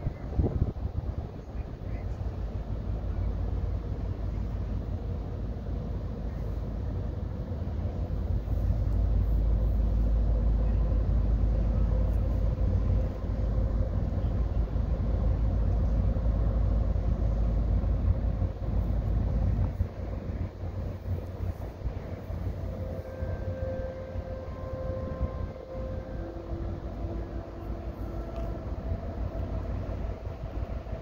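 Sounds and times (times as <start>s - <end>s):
faint steady hum: 0.0s - 31.0s
vehicle engine rumble: 0.0s - 31.0s.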